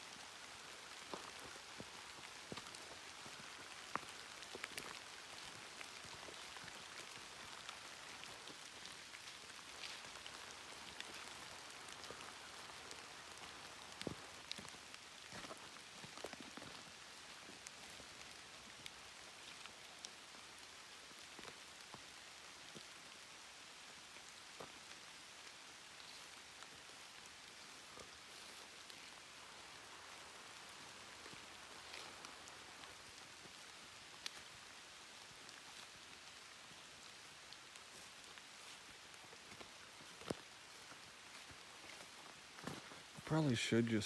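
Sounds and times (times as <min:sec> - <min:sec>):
rain falling: 0:00.0 - 0:44.0
raindrops ticking close by: 0:00.1 - 0:44.0.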